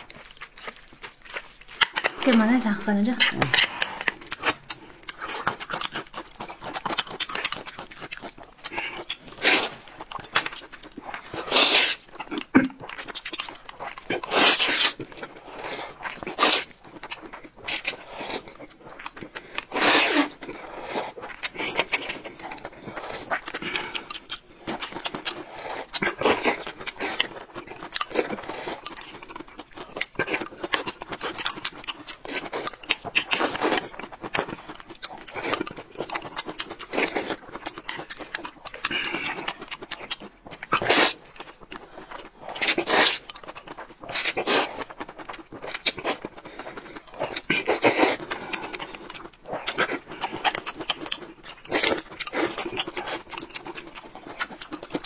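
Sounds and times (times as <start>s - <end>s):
noodles being slurped: 0.0s - 55.0s.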